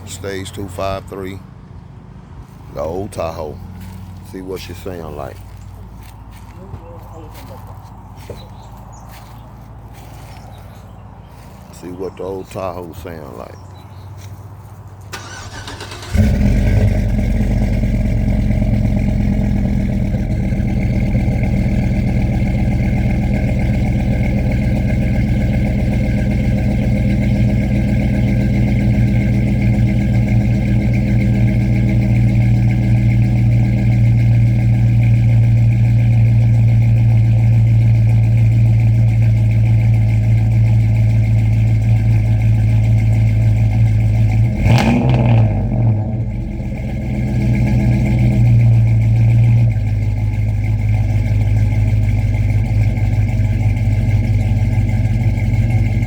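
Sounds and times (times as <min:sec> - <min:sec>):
car engine starting and idling: 0:00.0 - 0:56.0.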